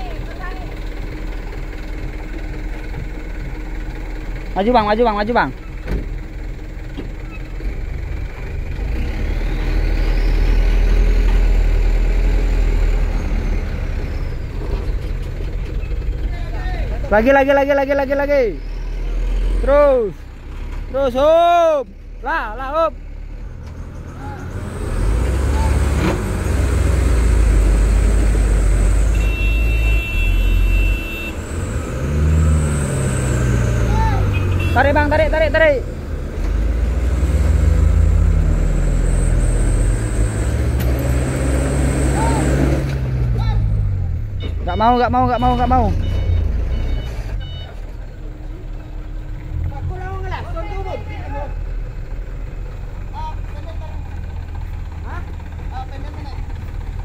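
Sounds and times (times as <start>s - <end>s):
diesel truck engine revving: 0.0s - 57.0s.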